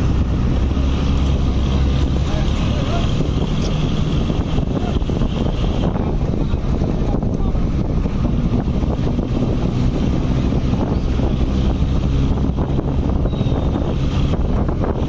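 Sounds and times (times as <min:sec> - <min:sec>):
vehicle rumble on road: 0:00.0 - 0:15.0
wind buffeting microphone: 0:00.0 - 0:15.0.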